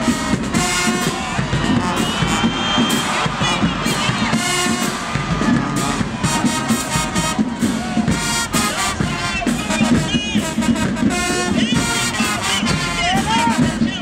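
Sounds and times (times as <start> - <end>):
brass section melody: 0.0 - 14.0
steady drum beat: 0.0 - 14.0.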